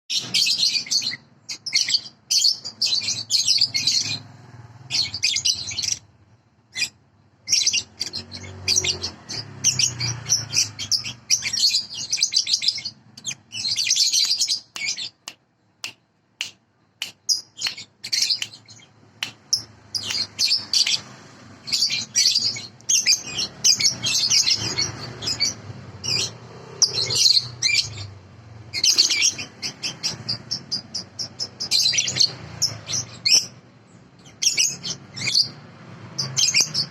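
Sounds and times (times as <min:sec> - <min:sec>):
bird chirping and trilling: 0:00.1 - 0:36.9.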